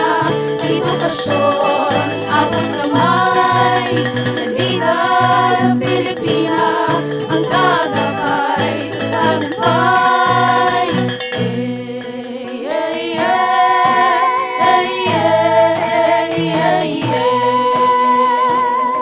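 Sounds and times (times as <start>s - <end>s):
instrumental backing: 0.0s - 19.0s
sung theme song: 0.0s - 19.0s.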